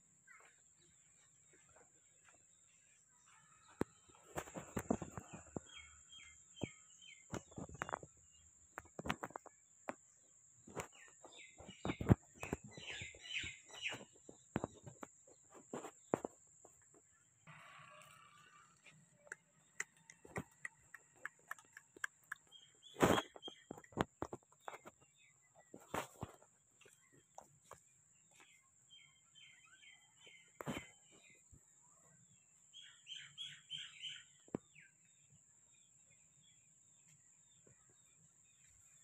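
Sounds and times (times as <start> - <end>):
birds chirping: 0.1 - 39.0.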